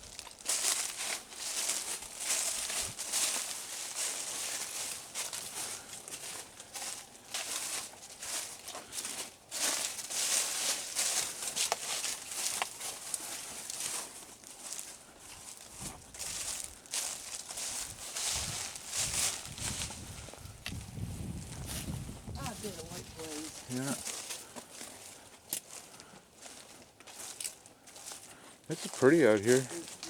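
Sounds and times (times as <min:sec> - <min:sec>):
footsteps in leaf litter: 0:00.0 - 0:30.0.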